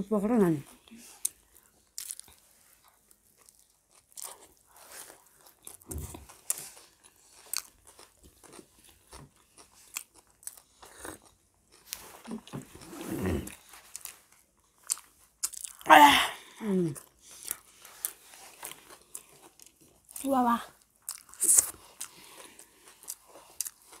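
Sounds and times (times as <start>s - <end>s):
people chewing food: 0.1s - 24.0s.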